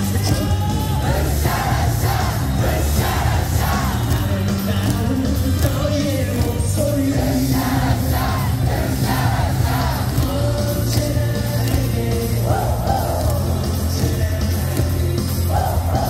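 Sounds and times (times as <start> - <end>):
cheer song over loudspeakers: 0.0 - 16.0
crowd singing and yelling: 0.0 - 16.0.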